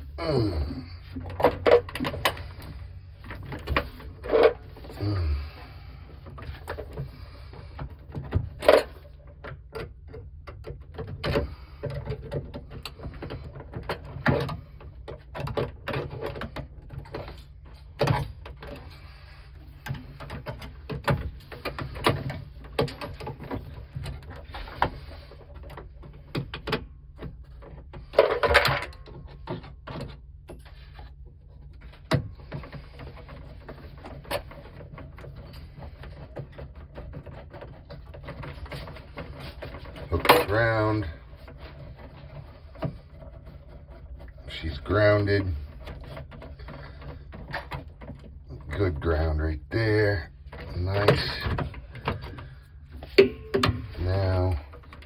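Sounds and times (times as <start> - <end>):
hand tools and metal parts clattering: 0.0 - 55.0.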